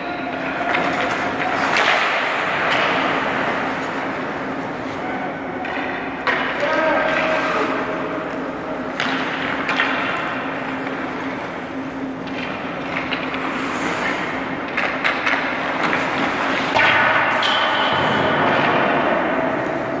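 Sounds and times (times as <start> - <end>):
steady low hum: 0.0 - 20.0
stick and puck clacks: 0.0 - 20.0
skates scraping ice: 0.2 - 20.0.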